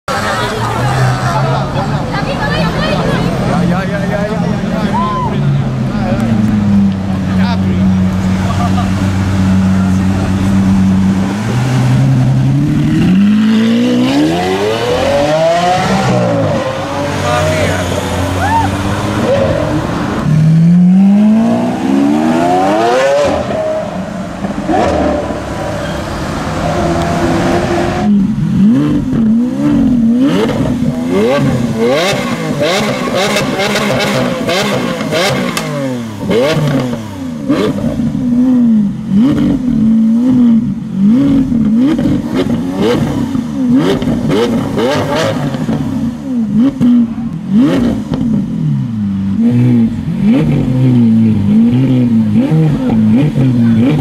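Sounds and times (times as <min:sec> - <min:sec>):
car engine revving: 0:00.1 - 0:54.0
sports car accelerating: 0:00.1 - 0:54.0.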